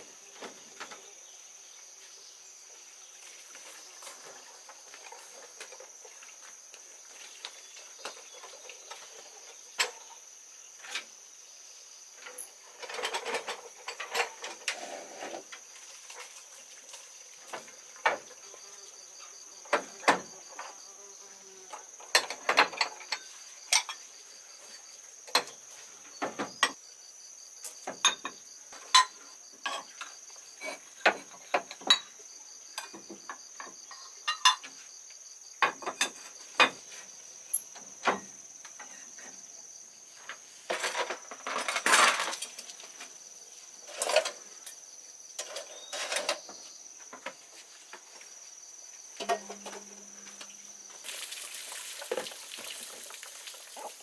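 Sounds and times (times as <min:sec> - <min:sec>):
high insect drone: 0:00.0 - 0:54.0.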